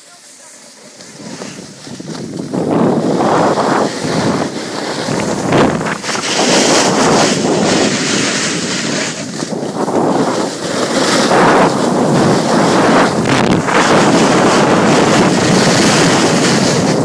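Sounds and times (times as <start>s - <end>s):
snowboard edge carving snow: 0.0s - 17.0s
wind rushing over microphone: 0.8s - 17.0s.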